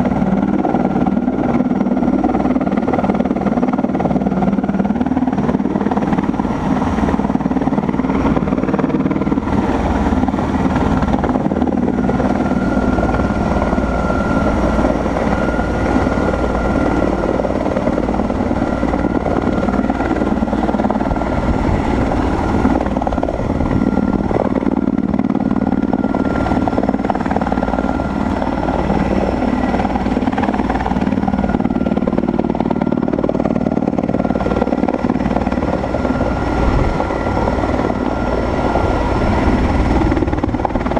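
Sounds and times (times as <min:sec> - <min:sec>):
helicopter rotor throbbing: 0:00.0 - 0:40.9
helicopter turbines whining: 0:00.0 - 0:40.9.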